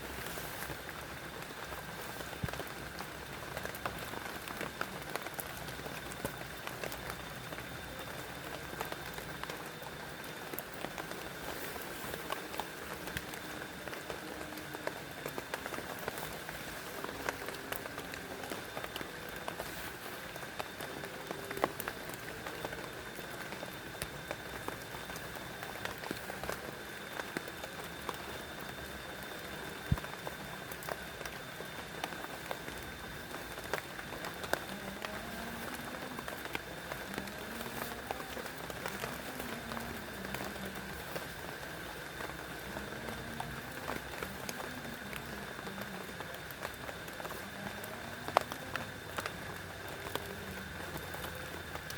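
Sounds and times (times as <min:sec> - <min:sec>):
rain drops ticking on a surface: 0:00.0 - 0:51.9.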